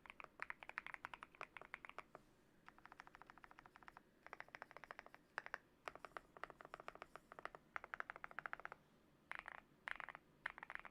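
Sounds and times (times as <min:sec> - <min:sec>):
mechanical keyboard typing: 0:00.0 - 0:02.0, 0:02.7 - 0:10.9.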